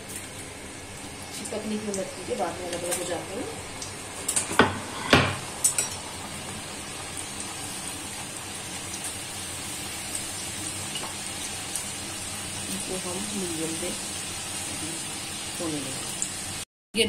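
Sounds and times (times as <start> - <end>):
dough deep-frying in oil: 0.0 - 16.6.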